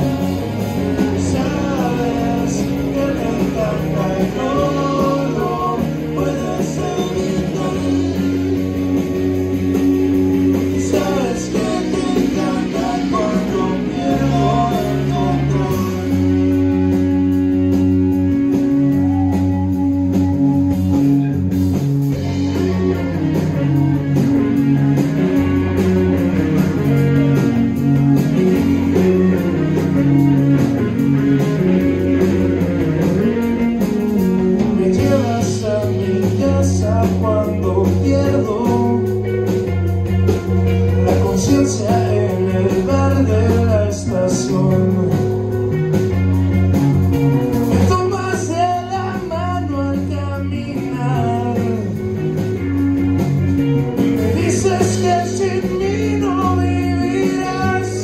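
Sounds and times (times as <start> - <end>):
bass notes: 0.0 - 58.0
drums: 0.0 - 58.0
electric guitars: 0.0 - 58.0.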